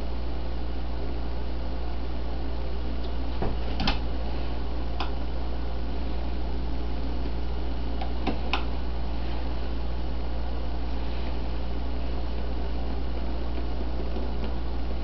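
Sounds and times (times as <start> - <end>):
steady low hum and hiss: 0.0 - 15.0.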